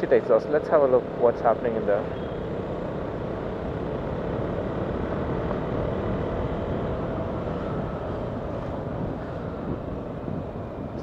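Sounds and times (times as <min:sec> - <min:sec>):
motorcycle engine: 0:00.0 - 0:11.0
road noise: 0:00.0 - 0:11.0.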